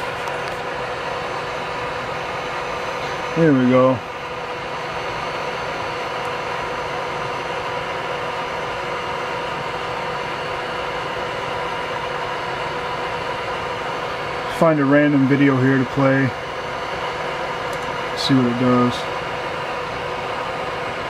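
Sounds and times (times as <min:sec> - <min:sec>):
server cooling fans whining: 0:00.0 - 0:21.0.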